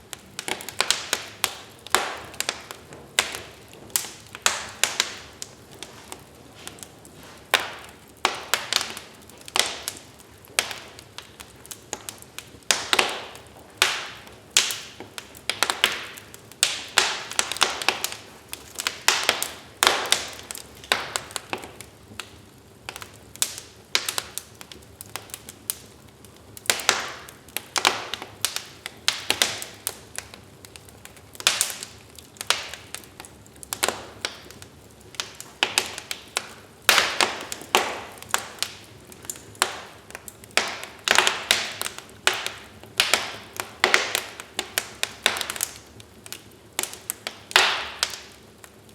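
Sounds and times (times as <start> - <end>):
low hiss of burning logs: 0.0 - 48.9
wood fire crackling and popping: 0.0 - 48.9.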